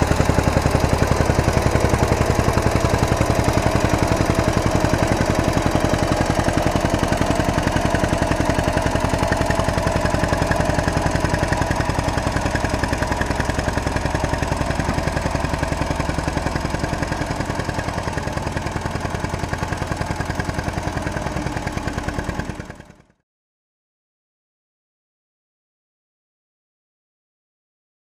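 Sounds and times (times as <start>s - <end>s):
tractor engine chugging: 0.0s - 23.1s.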